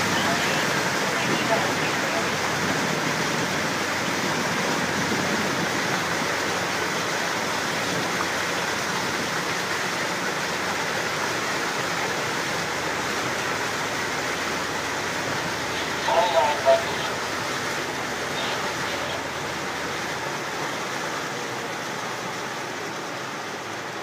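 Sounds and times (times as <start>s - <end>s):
water streaming past boat hull: 0.0s - 24.0s.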